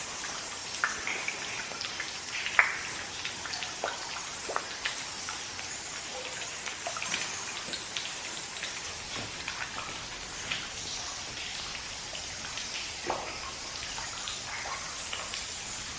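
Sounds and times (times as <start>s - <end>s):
steady hiss: 0.0s - 15.9s.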